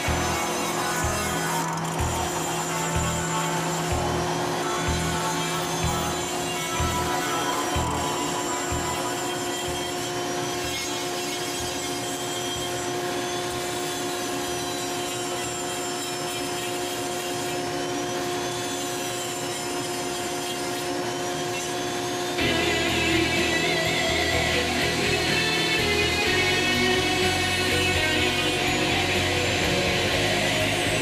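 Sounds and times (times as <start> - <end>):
rotary tool grinding wood: 0.0 - 31.0.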